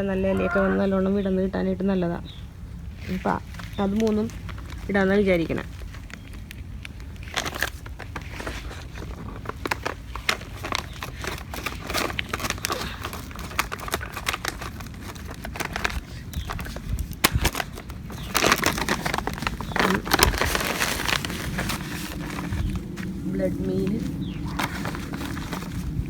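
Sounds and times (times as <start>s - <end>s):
plastic bag crinkling and rustling: 3.0s - 26.0s.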